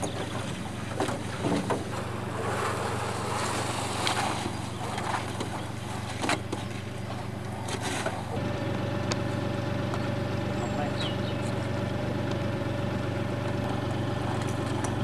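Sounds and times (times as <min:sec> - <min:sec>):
steady low hum: 0:00.0 - 0:15.0
water noise: 0:00.0 - 0:15.0.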